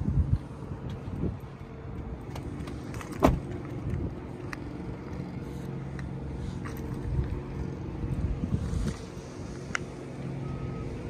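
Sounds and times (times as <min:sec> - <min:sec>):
car engine idling: 0:00.4 - 0:11.0.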